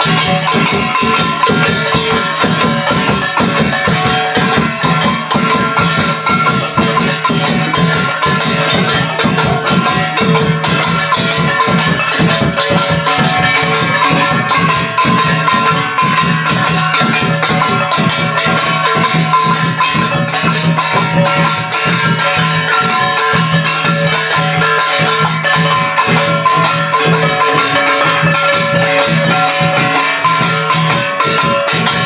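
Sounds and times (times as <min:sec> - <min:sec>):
rattling shaking percussion: 0:00.0 - 0:32.0.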